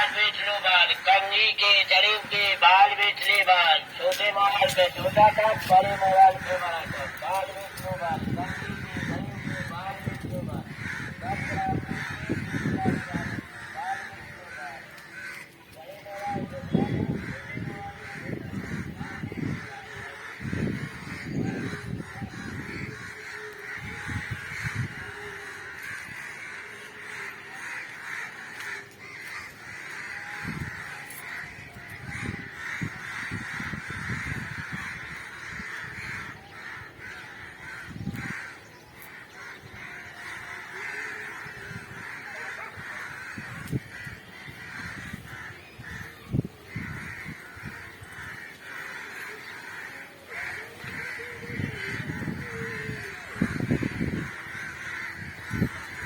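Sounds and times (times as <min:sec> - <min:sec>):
chorus of bird calls: 0:00.0 - 0:56.0.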